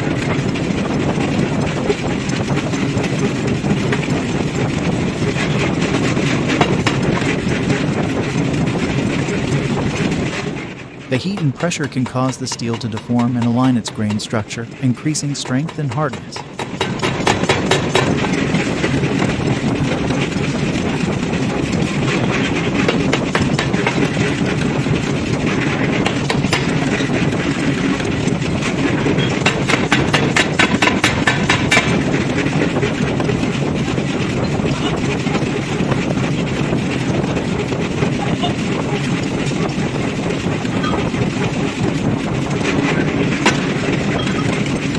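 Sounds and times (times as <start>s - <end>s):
heavy forging machinery running: 0.0s - 44.9s
rapid knocking: 0.0s - 44.9s.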